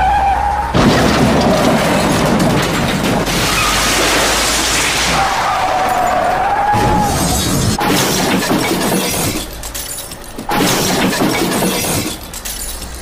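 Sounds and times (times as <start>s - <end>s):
plastic toy truck crashing: 0.7s - 13.0s.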